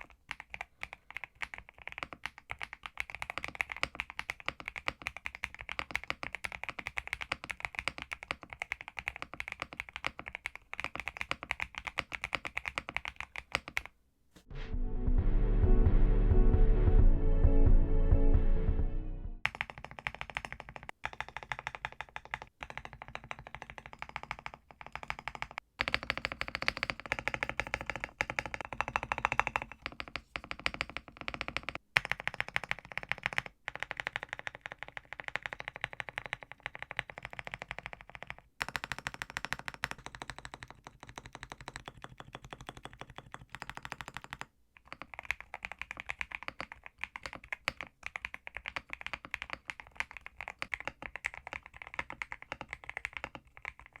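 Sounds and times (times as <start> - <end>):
typing on mechanical keyboard: 0.0 - 14.0, 19.4 - 54.0.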